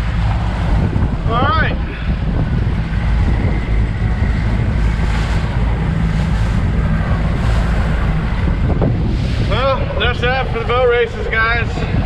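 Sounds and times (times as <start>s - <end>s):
outboard boat motor running: 0.0s - 12.0s
water rushing: 0.0s - 12.0s
wind on microphone: 0.0s - 12.0s.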